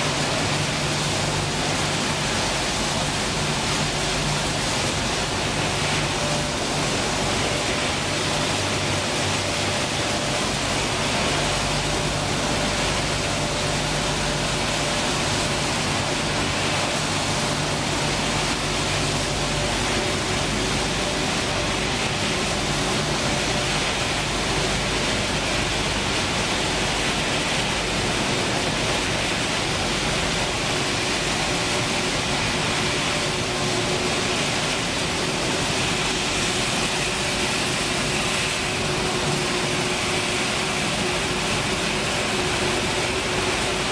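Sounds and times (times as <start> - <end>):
production line machinery running: 0.0 - 43.9.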